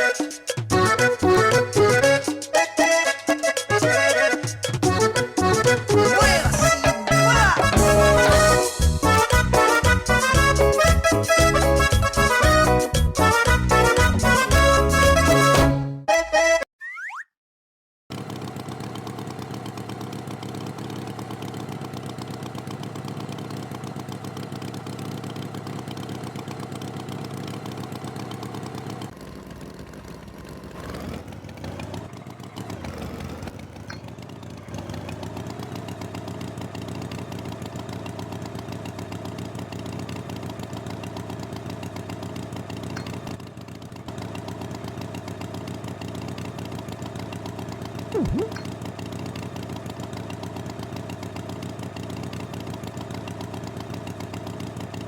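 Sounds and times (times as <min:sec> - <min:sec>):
tractor engine running: 0:00.0 - 0:15.7, 0:18.1 - 0:55.0.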